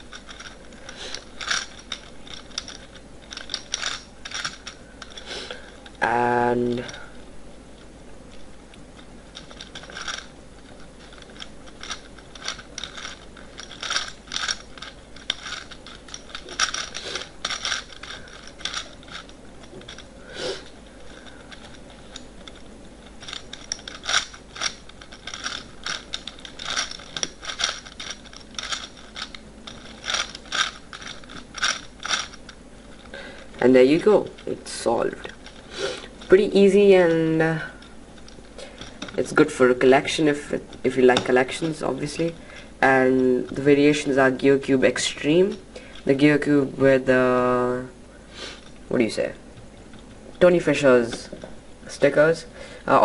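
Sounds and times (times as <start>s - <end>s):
puzzle cube gears clicking: 0.0s - 7.2s, 7.8s - 47.9s.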